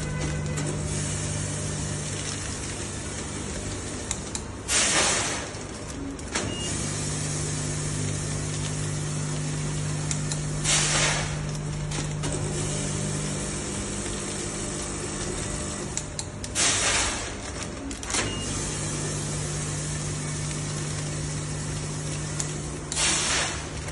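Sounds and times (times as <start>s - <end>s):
filling machine humming: 0.0s - 23.9s.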